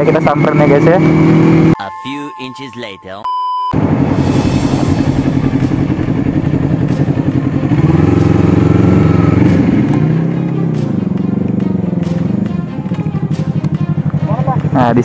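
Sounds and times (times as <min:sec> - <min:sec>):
motorcycle engine running: 0:00.0 - 0:01.8, 0:03.8 - 0:15.0.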